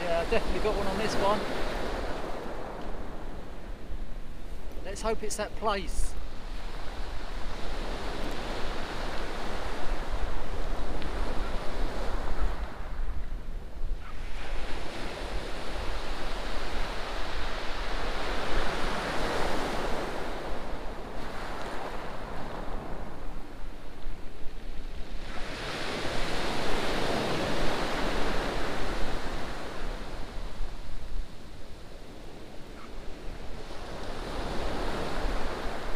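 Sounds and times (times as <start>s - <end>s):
low wind rumble on microphone: 0.0s - 5.2s, 6.1s - 35.9s.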